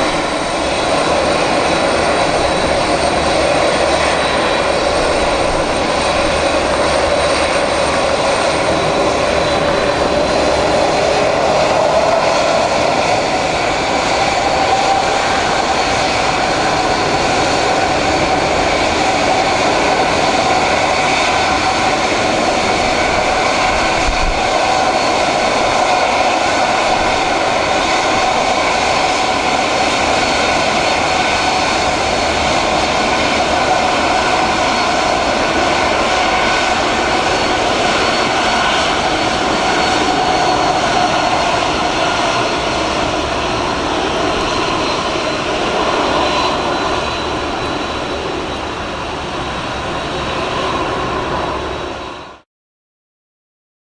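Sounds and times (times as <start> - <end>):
jet engines running with whine: 0.0 - 52.5.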